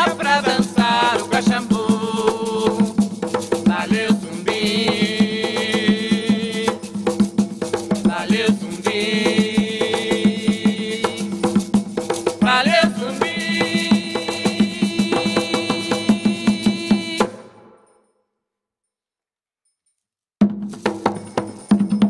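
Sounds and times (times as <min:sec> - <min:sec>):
hand drums and rattles: 0:00.0 - 0:17.4, 0:20.4 - 0:22.0.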